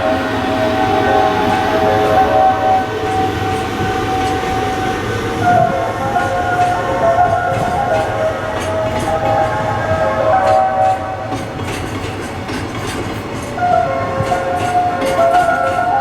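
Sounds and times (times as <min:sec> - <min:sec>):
wheels clicking over rail joints: 0:00.0 - 0:16.0.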